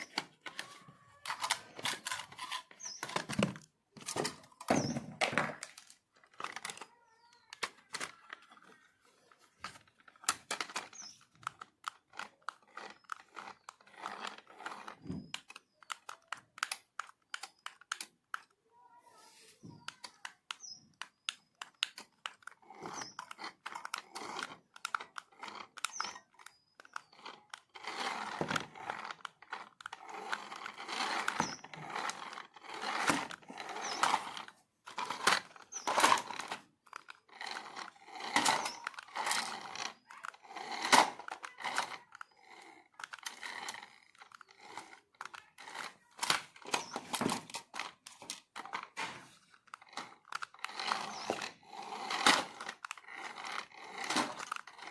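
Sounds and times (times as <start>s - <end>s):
clicks: 0.0s - 18.6s, 19.6s - 54.9s.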